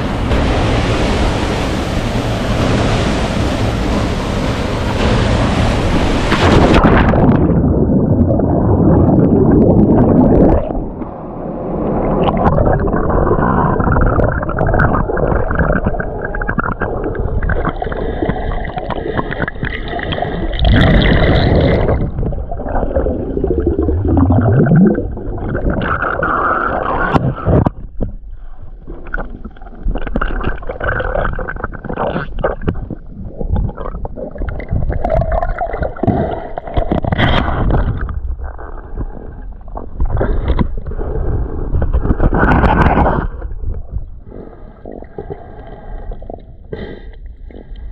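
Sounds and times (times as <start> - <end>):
muffled water churning: 0.0 - 47.9.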